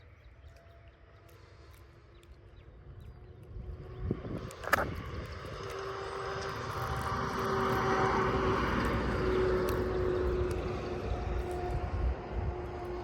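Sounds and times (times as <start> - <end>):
propeller aircraft droning: 0.0 - 13.0.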